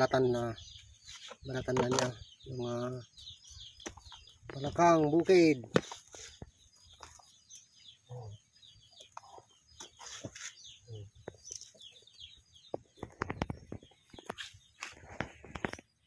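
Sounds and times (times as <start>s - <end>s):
chickens clucking: 0.0s - 16.0s
small birds chirping: 0.0s - 16.0s.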